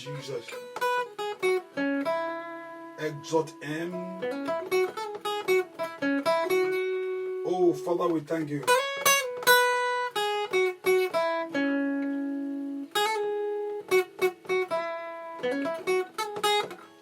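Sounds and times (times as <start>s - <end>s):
guitar chord ringing: 0.0s - 17.0s
guitar picking single notes: 0.0s - 17.0s.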